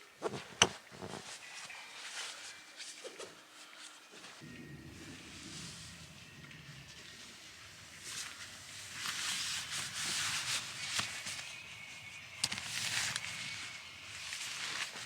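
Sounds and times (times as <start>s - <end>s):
rustling and rubbing: 0.2s - 15.0s.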